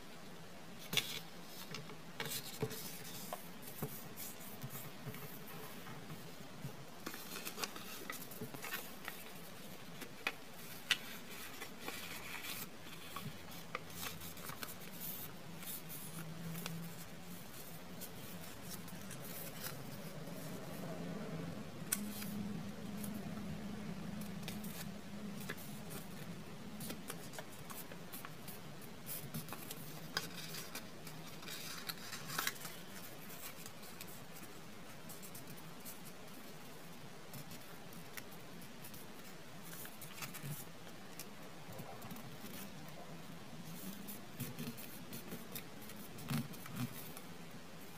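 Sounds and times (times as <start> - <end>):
paper rustling and crinkling: 0.8 - 20.8, 24.1 - 43.0, 43.6 - 47.9.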